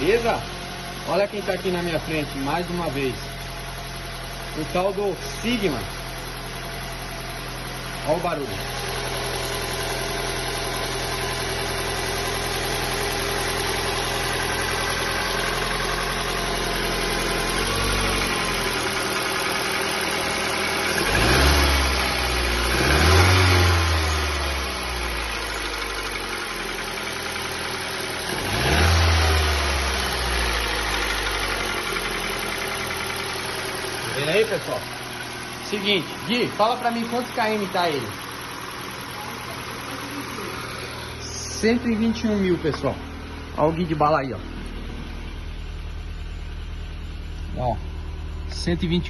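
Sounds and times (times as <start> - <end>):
car engine idling with knocking: 0.0 - 49.0
engine revving: 7.8 - 49.0.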